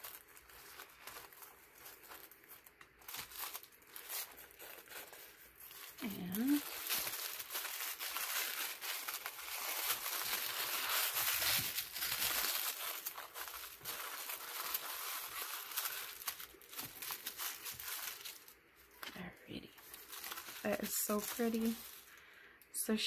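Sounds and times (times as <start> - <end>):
tissue paper crinkling: 0.0 - 22.4.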